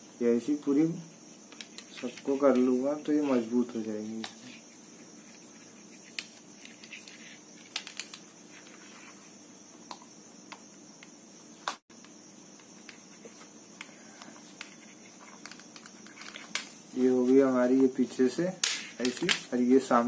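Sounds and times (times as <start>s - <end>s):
faint room hum: 0.0s - 20.0s.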